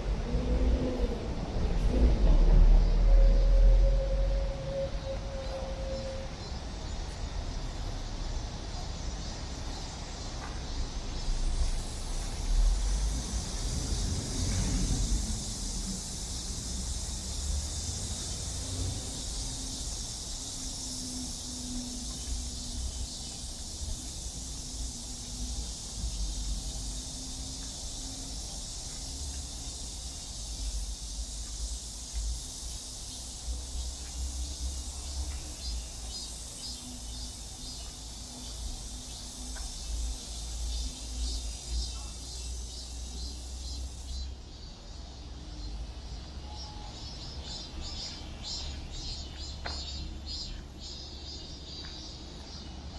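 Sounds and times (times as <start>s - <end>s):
cicadas droning: 0.0s - 52.9s.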